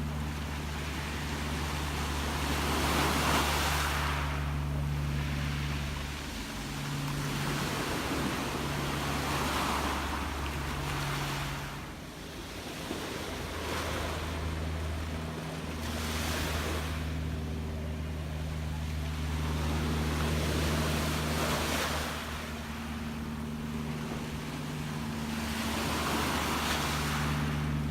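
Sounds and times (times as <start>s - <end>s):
steady low hum: 0.0s - 27.9s
waves washing onto shore: 0.0s - 27.9s.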